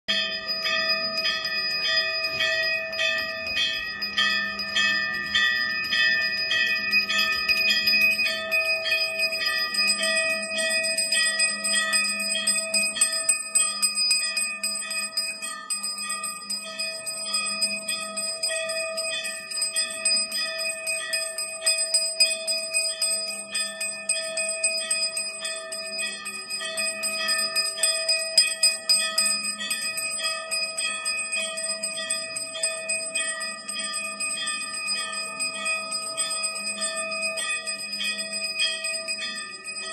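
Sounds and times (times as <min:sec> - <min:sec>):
bells ringing rapidly: 0:00.1 - 0:39.9.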